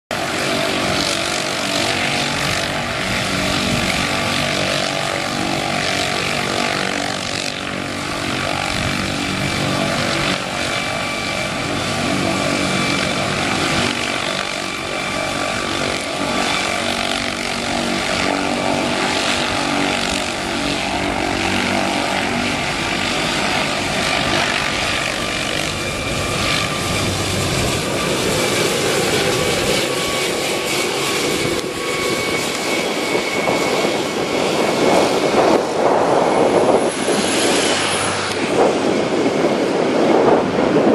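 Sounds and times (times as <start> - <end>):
helicopter rotor noise: 0.1 - 40.9
helicopter turbine whine: 0.1 - 40.9.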